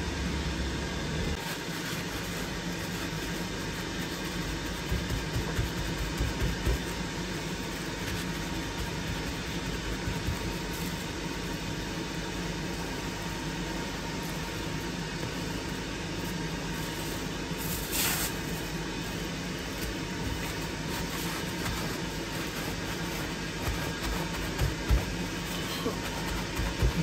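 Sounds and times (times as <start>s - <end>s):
mechanical hum and hiss: 0.0s - 27.0s
paper towel rustling: 1.4s - 11.6s, 14.1s - 27.0s.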